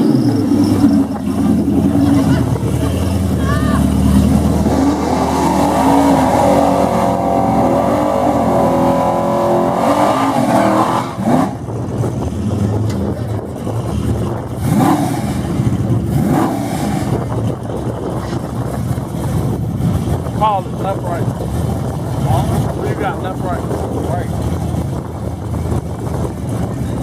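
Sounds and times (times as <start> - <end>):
drag-race car engine revving: 0.0 - 27.0.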